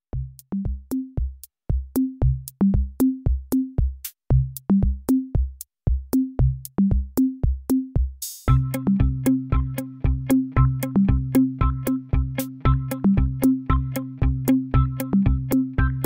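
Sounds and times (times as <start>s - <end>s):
electronic music with deep drums: 0.2s - 16.0s.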